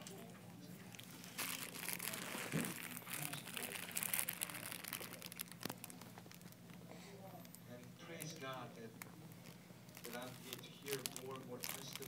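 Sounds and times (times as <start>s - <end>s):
crinkling and rustling: 0.0s - 7.6s, 8.2s - 12.0s.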